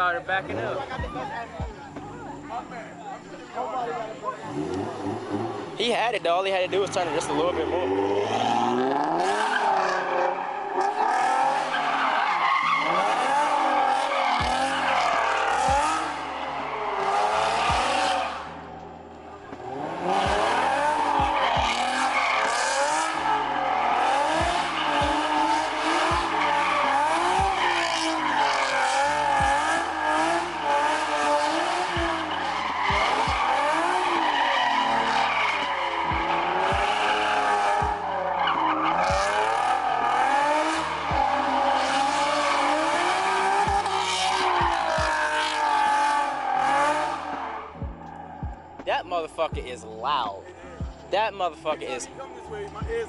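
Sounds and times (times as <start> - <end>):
tyres squealing: 0.0 - 53.0
engines revving hard: 4.4 - 18.8, 19.4 - 49.7.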